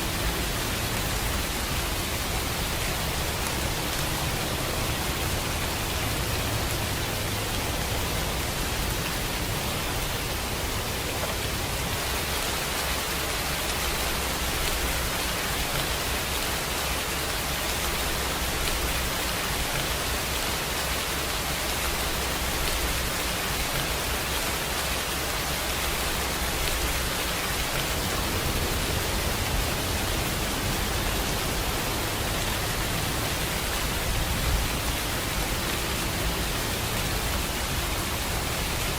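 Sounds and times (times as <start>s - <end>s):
rain hissing: 0.0s - 38.9s.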